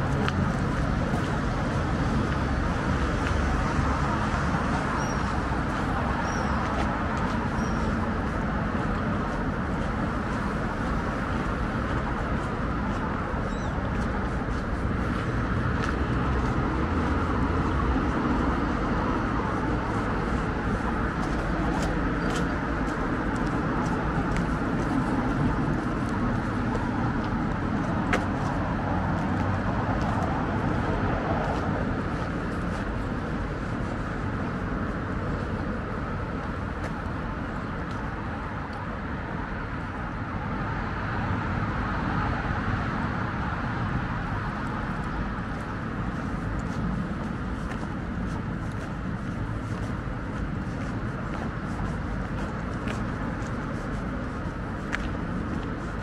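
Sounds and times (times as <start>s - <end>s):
road traffic: 0.0s - 56.0s.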